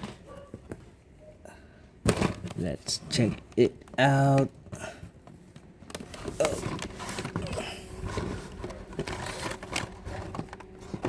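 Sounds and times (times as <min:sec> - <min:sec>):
plastic and cardboard packs rustling: 0:02.0 - 0:11.0.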